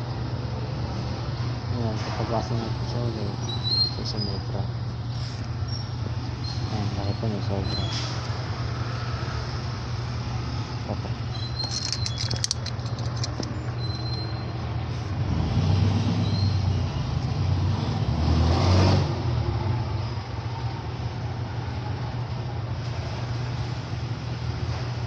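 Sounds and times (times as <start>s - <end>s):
traffic engine rumble: 0.0s - 25.0s.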